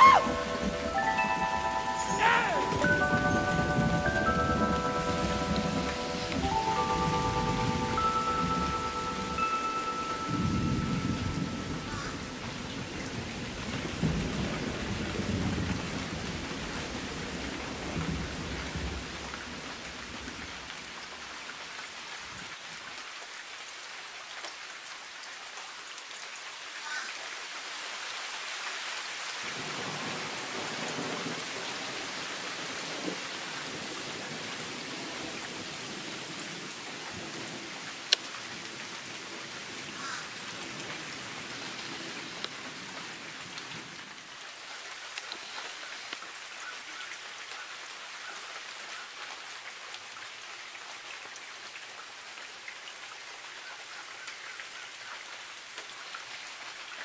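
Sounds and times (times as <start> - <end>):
steady rain on foliage: 0.0 - 57.0.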